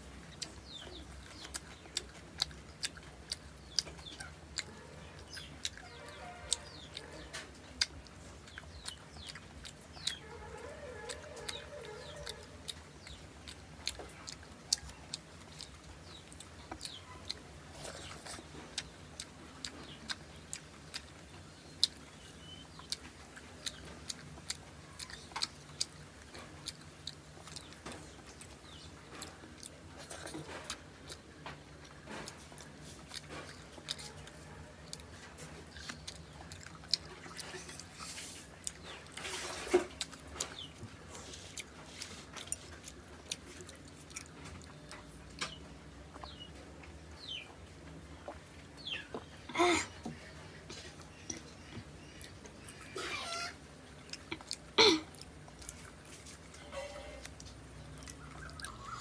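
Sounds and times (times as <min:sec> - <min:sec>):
faint low hum: 0:00.0 - 0:59.0
person chewing with mouth clicks: 0:00.0 - 0:59.0.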